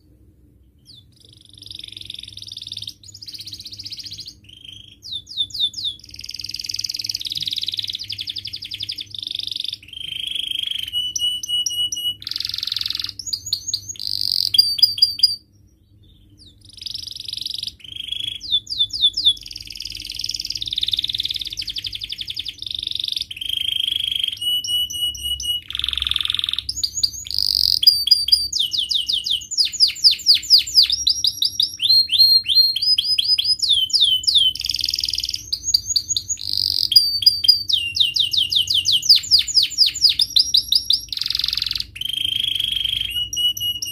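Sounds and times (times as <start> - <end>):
faint low hum: 0.0 - 43.9
canary singing: 0.6 - 43.9.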